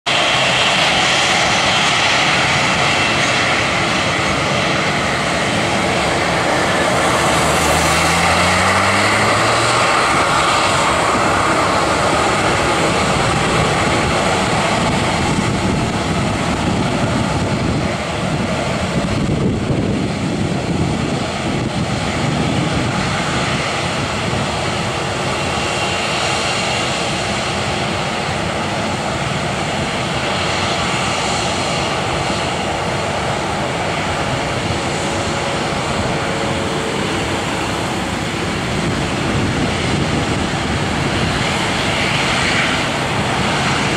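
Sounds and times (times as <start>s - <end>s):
jet engines running: 0.0s - 43.9s.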